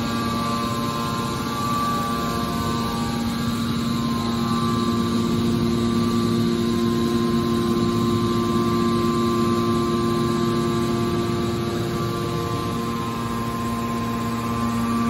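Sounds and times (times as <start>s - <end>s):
hydraulic motor and pump humming: 0.0s - 15.0s
whining tones: 0.0s - 15.0s.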